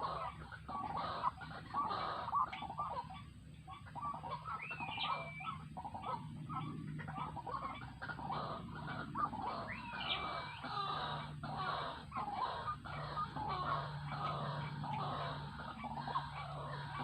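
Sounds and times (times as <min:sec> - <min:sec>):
steady low hum: 0:00.0 - 0:17.0
waterhens calling: 0:00.0 - 0:17.0.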